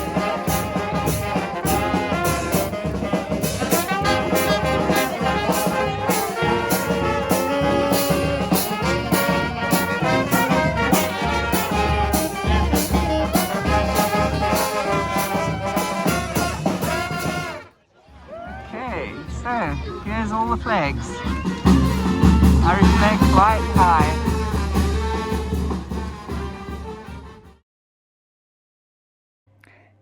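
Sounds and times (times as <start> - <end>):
brass band playing: 0.0 - 27.6.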